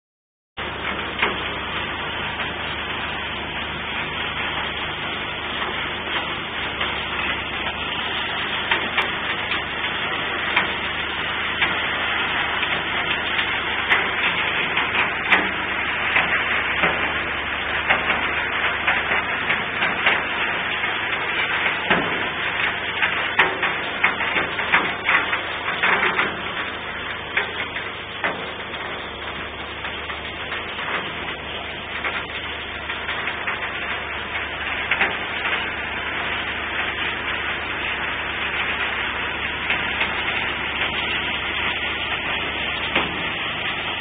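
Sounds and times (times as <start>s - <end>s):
continuous rushing noise: 0.6s - 44.0s
low machine hum: 0.6s - 44.0s.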